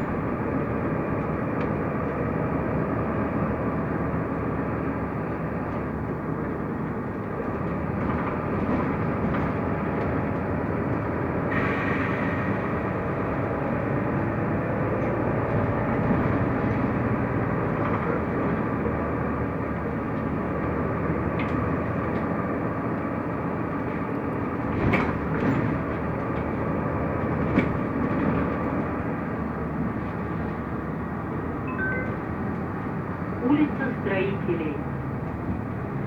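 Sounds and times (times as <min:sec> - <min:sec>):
bus running from inside: 0:00.0 - 0:36.0.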